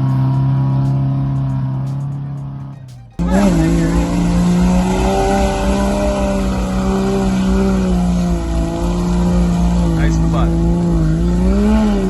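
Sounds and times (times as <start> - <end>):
engine at high revs: 0.0 - 12.0
steady rushing noise: 0.0 - 12.0.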